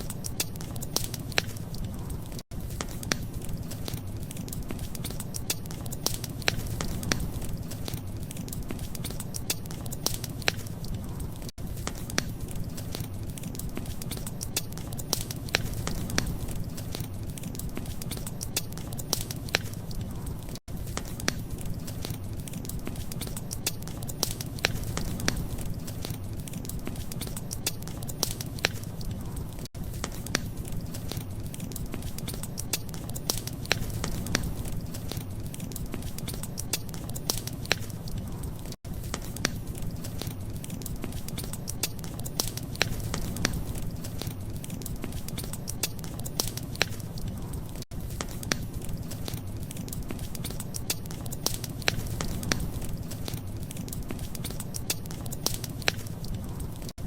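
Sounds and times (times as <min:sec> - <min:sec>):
low fire rumble: 0:00.0 - 0:57.0
wood fire crackling and popping: 0:00.0 - 0:57.0.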